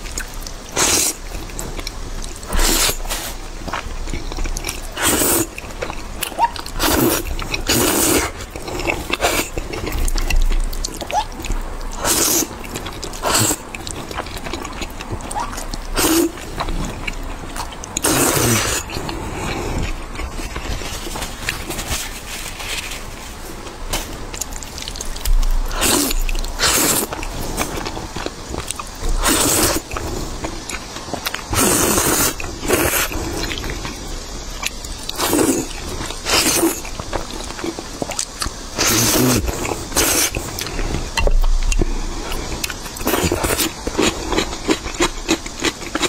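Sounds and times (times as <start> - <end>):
chewing: 0.0 - 46.0
wet noodle slurping: 0.7 - 22.0, 23.9 - 34.0, 35.1 - 37.4, 38.8 - 46.0.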